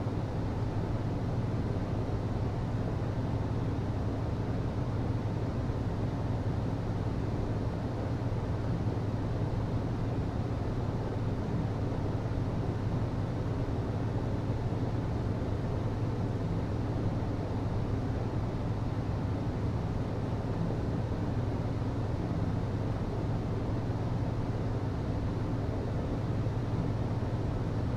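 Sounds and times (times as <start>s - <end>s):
ventilation system humming: 0.0s - 27.9s.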